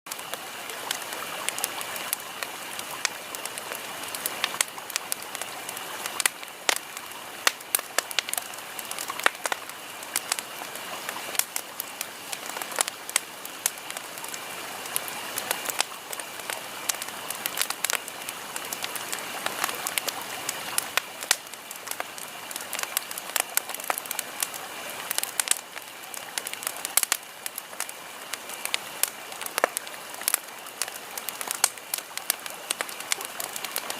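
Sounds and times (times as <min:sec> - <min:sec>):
campfire snaps and pops: 0:00.1 - 0:33.9
hiss of burning wood: 0:00.1 - 0:33.9.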